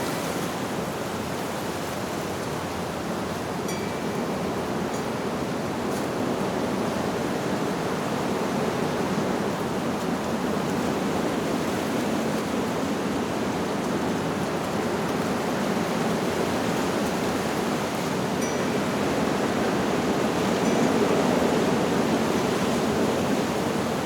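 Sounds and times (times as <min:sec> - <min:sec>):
wind through leaves: 0:00.0 - 0:24.0.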